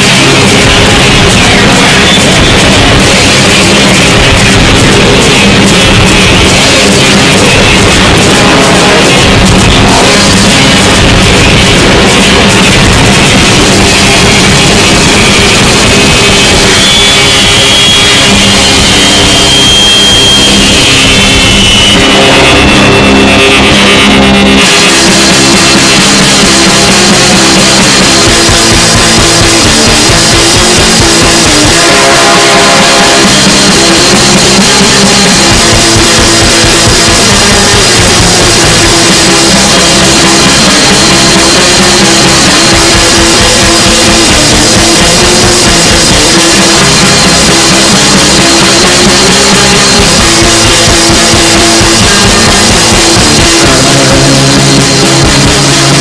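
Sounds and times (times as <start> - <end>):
distorted guitar riffing: 0.0 - 56.0
fast dense drumming: 0.0 - 56.0.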